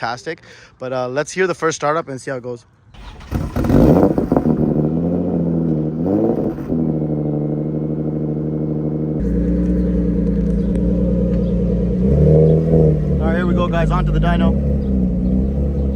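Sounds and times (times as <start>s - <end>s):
car engine idling: 3.0s - 15.9s.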